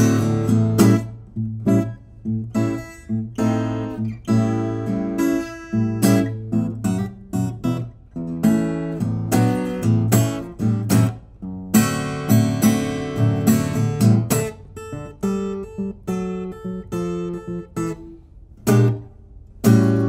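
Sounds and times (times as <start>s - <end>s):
acoustic guitar picking and strumming: 0.0s - 20.0s.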